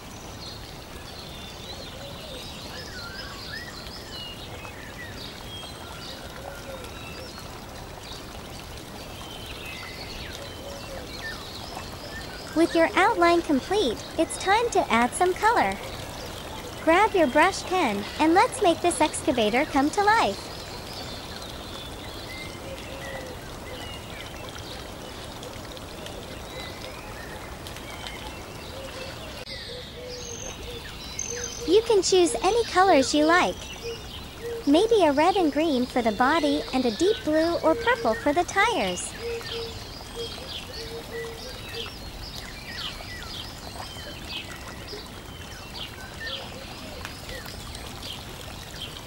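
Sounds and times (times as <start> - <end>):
birds chirping: 0.0 - 49.0
running water: 0.0 - 49.0.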